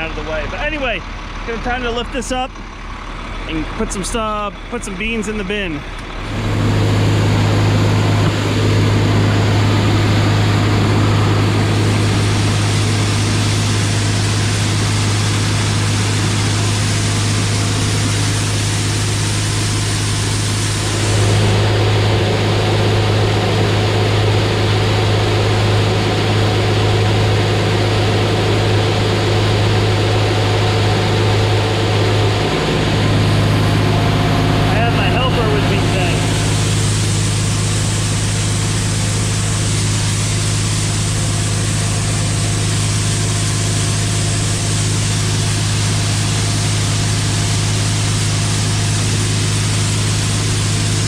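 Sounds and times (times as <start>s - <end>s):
tractor engine hum: 0.0s - 51.0s
hiss of machinery and grain: 6.3s - 32.8s, 34.8s - 51.0s.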